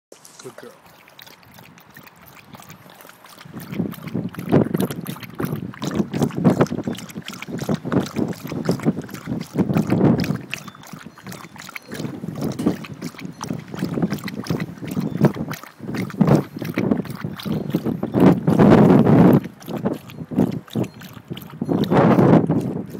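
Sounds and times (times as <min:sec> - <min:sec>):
dog lapping water: 0:00.1 - 0:22.9.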